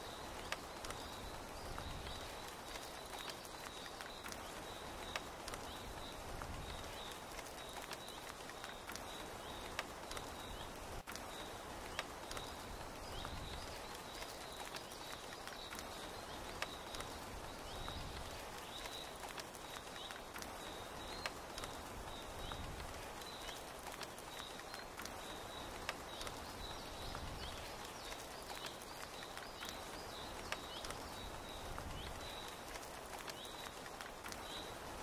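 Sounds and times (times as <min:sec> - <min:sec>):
rain pattering: 0:00.0 - 0:35.0
sharp water drips: 0:00.0 - 0:35.0.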